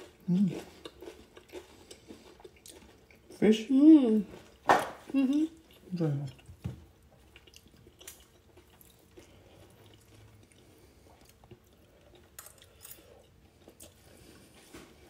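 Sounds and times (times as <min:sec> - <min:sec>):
faint chewing: 0:00.0 - 0:03.4, 0:04.2 - 0:15.0.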